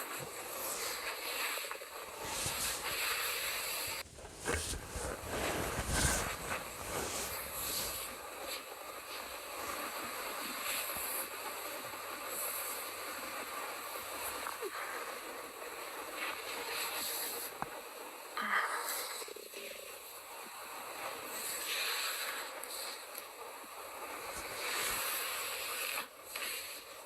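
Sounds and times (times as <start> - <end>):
stomach rumbling and gurgling: 0.0 - 27.0.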